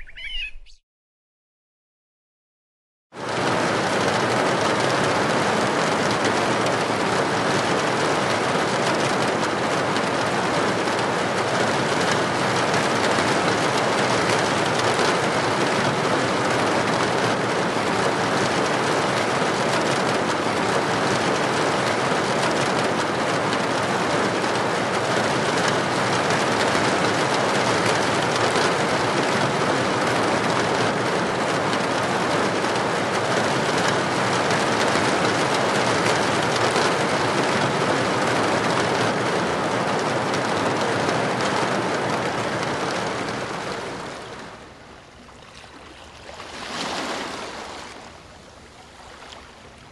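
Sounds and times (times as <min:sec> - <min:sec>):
river rapids rushing: 0:03.4 - 0:49.9.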